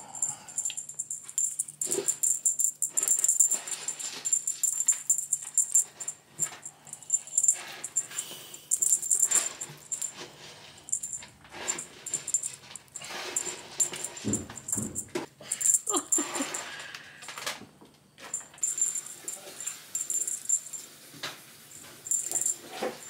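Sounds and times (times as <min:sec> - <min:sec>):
high bell ringing: 0:00.0 - 0:10.2, 0:10.9 - 0:16.7, 0:18.4 - 0:20.9, 0:21.8 - 0:23.0
cat toy jingling: 0:00.0 - 0:16.7, 0:18.3 - 0:21.1, 0:21.7 - 0:23.0.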